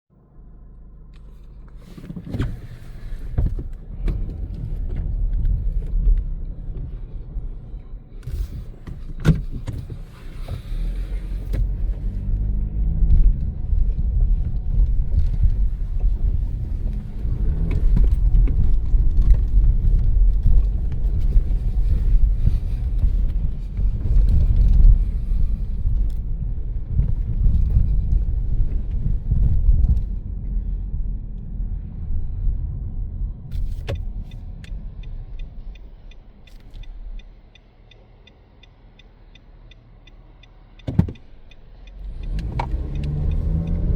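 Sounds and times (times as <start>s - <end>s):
car tyres and engine rumble: 0.1s - 43.9s.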